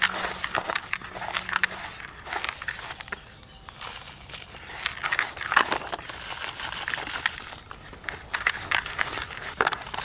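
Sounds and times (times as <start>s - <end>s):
crumbly particles rustling and crunching: 0.0s - 10.0s.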